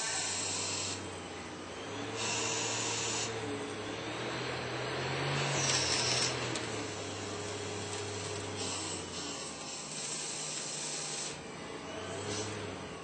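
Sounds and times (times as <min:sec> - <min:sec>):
lathe spindle hum: 0:00.0 - 0:13.0.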